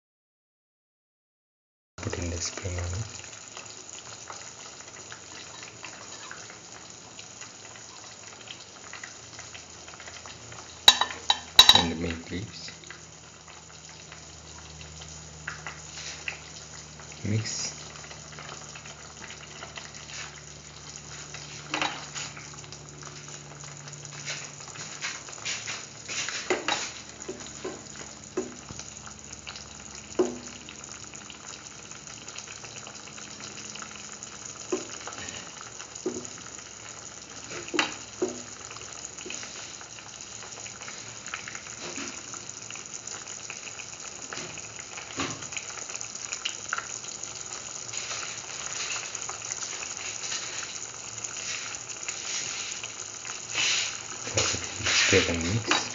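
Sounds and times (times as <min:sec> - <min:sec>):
broth sizzling and bubbling: 0:02.0 - 0:55.9.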